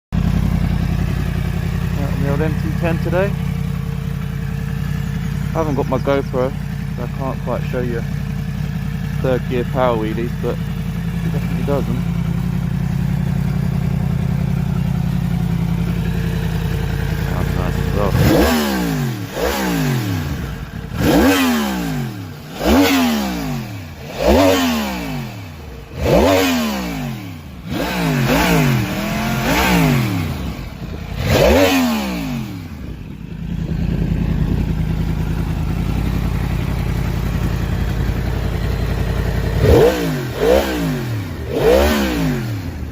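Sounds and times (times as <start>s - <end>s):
motorcycle engine idling: 0.1s - 42.9s
motorcycle engine revving: 0.2s - 42.9s.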